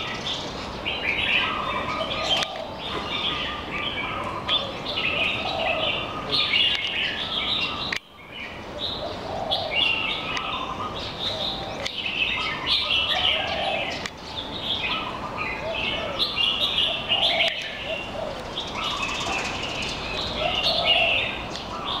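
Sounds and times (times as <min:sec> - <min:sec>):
songbirds chirping and singing: 0:00.0 - 0:22.0.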